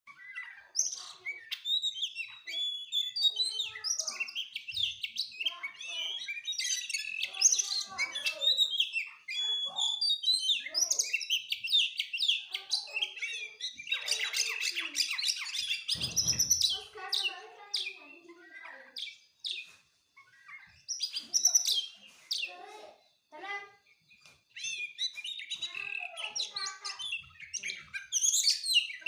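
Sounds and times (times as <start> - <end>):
bird singing whistled phrases: 0.1 - 22.5, 24.1 - 29.0.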